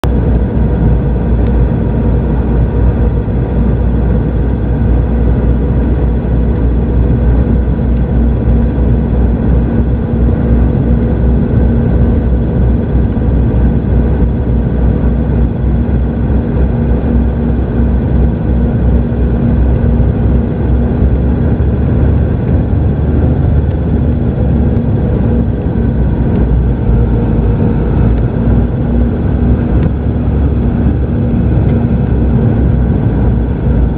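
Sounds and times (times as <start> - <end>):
airliner cabin airflow rush: 0.0 - 33.9
jet engines: 0.0 - 33.9
steady hum tones: 0.0 - 33.9.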